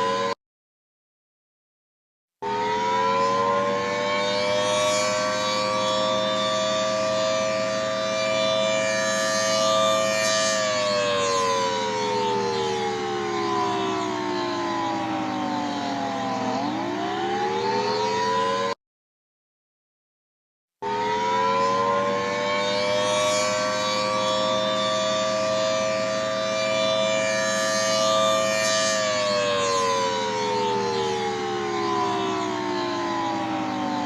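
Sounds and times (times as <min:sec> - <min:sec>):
emergency warning siren: 0:00.0 - 0:00.4, 0:02.4 - 0:18.8, 0:20.8 - 0:34.0.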